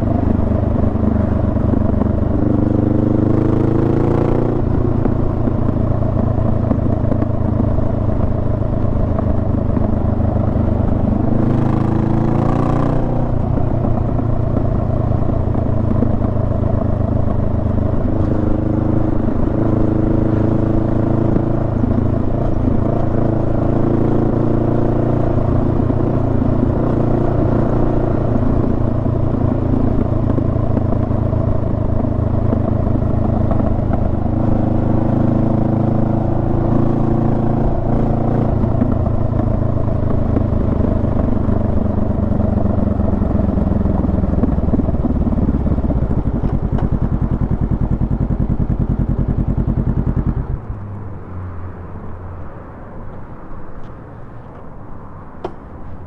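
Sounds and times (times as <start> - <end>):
motorcycle engine accelerating: 0.0 - 52.7.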